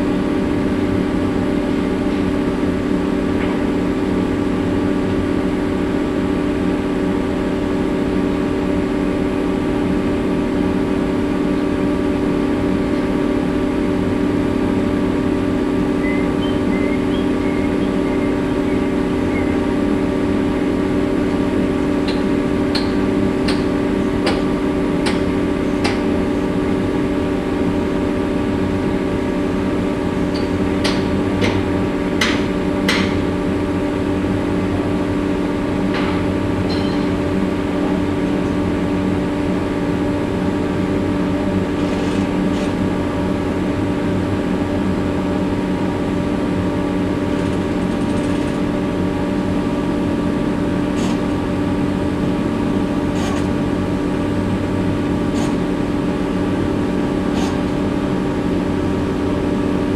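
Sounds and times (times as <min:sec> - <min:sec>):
crane machine hum: 0:00.0 - 0:59.9.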